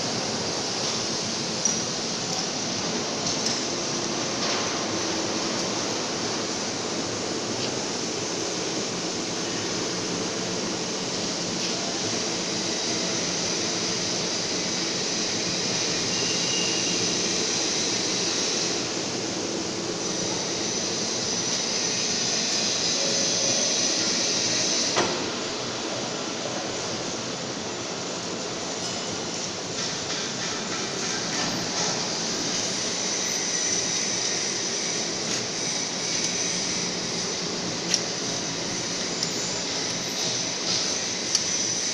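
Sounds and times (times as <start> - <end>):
welding machine hissing and humming: 0.0 - 41.9.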